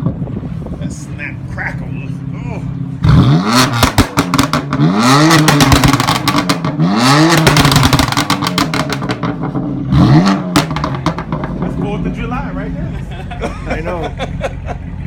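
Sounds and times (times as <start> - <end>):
exhaust crackling and popping: 0.0 - 12.5
car engine revving: 0.0 - 15.0.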